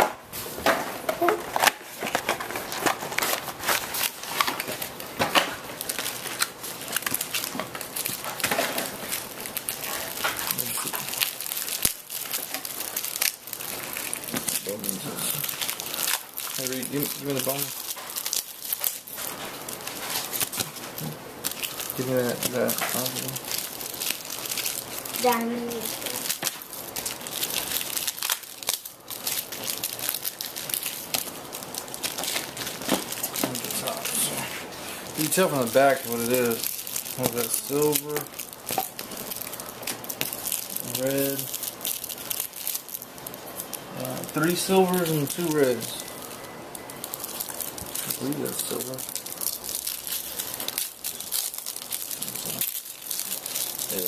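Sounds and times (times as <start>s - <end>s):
foil packs crinkling: 0.0s - 54.0s.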